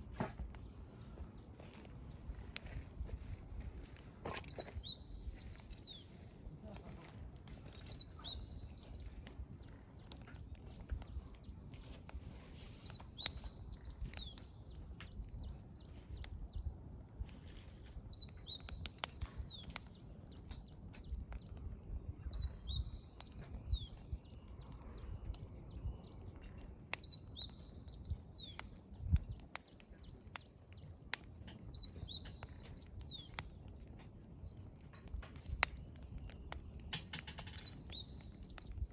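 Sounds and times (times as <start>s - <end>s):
wood fire crackling and popping: 0.0s - 38.9s
songbird singing with trill: 3.9s - 6.6s, 7.5s - 17.0s, 18.1s - 33.8s, 34.4s - 38.9s.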